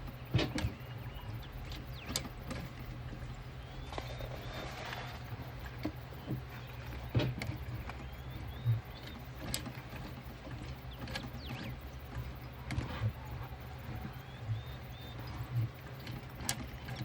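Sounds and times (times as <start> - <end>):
faint bird chirps: 0.0 - 9.6, 10.6 - 17.0
steady low hum: 0.0 - 17.0.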